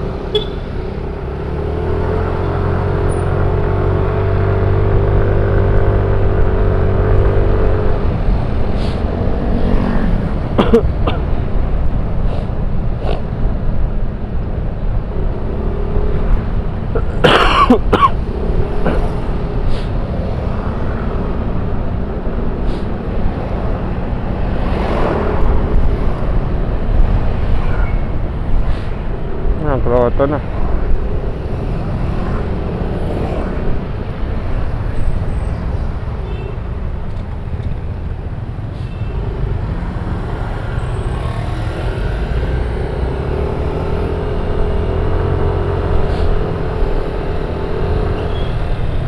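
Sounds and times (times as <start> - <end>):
motorcycle engine and road rumble: 0.0 - 49.0
passing traffic: 0.0 - 49.0
heavy wind noise: 3.3 - 49.0.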